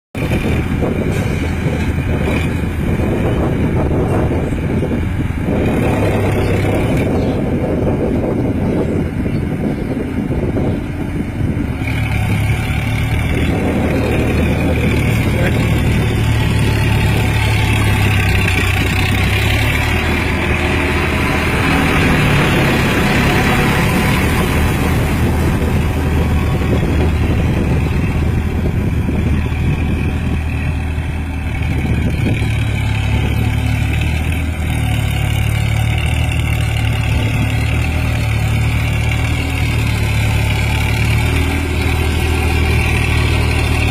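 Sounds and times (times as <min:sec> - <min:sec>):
tractor diesel engine running: 0:00.2 - 0:43.9.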